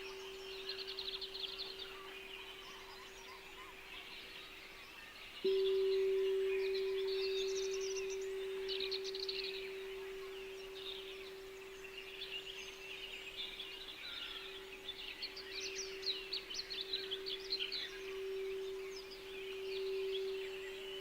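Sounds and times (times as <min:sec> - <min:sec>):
steady low tone: 0:00.0 - 0:04.0, 0:05.4 - 0:21.0
songbirds chirping: 0:00.0 - 0:21.0.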